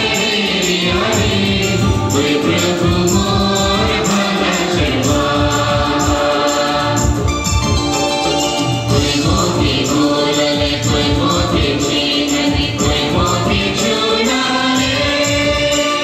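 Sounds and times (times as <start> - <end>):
group of voices singing: 0.0 - 16.0
steady percussive beat: 0.0 - 16.0.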